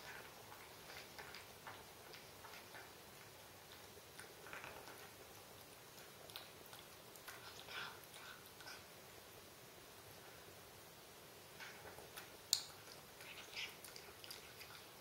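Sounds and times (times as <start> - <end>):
cat chewing wet food: 0.0 - 9.4, 11.5 - 15.0.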